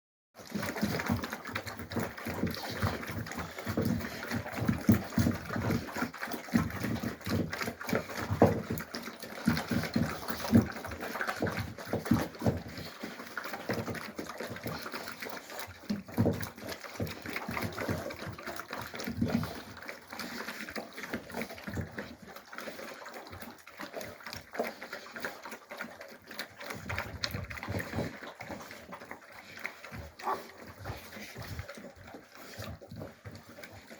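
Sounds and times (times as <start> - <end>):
puppies making small noises: 0.4 - 33.9.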